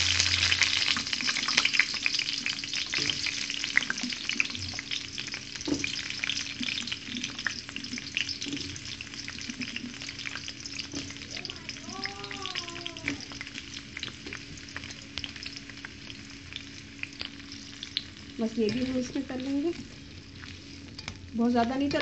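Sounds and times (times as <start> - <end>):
peppers sizzling in hot oil: 0.0 - 22.0.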